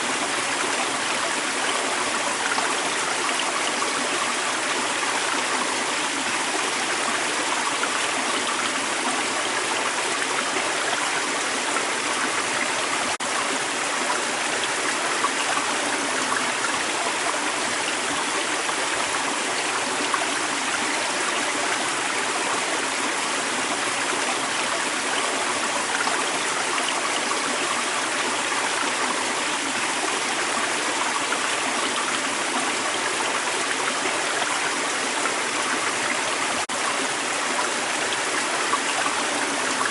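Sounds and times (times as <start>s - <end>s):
creek water over stones: 0.0s - 39.9s.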